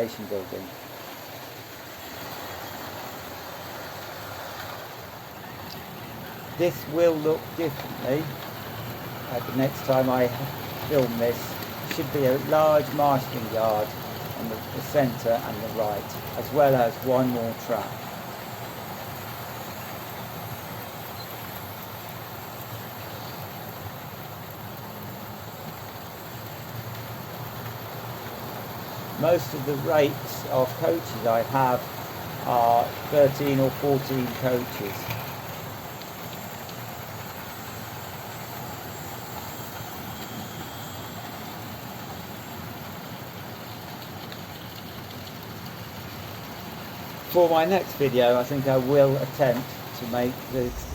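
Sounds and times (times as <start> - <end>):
model trains running on track: 0.0 - 50.9.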